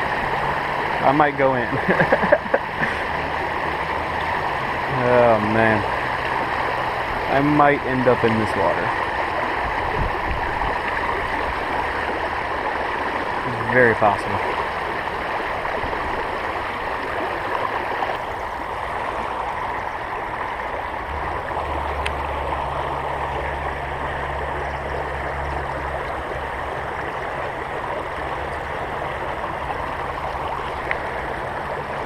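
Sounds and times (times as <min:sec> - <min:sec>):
creek water rushing: 0:00.0 - 0:32.0
low steady hum: 0:00.0 - 0:32.0.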